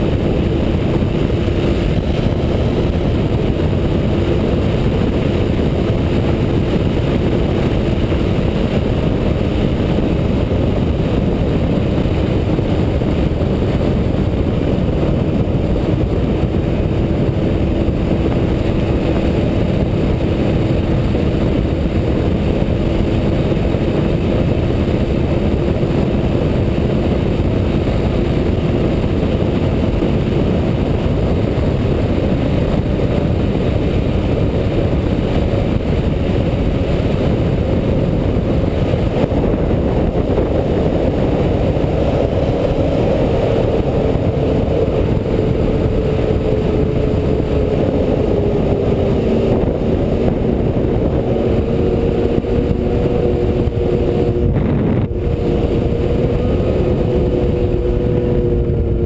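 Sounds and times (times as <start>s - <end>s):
snowmobile engine running: 0.0s - 59.0s
wind rumble on microphone: 0.0s - 59.0s.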